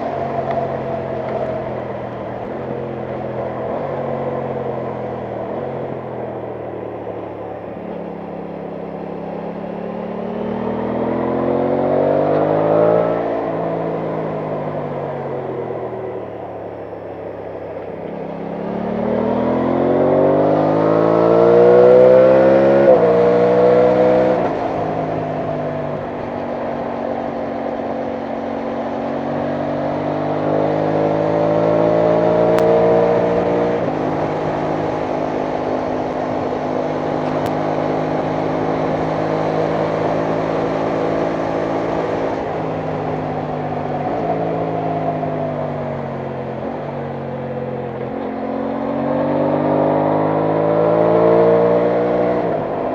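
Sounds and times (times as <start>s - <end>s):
motorcycle engine shifting gears: 0.0s - 52.9s.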